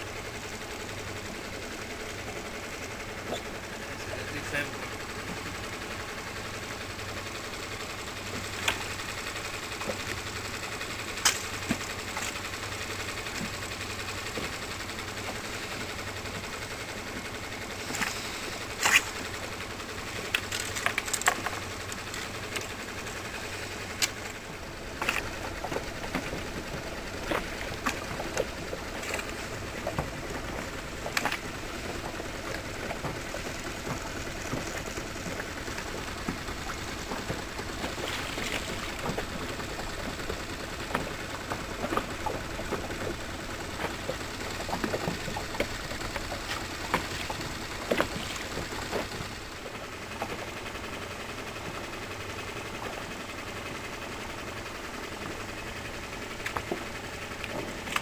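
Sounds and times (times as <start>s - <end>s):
outboard motor idling: 0.0s - 58.0s.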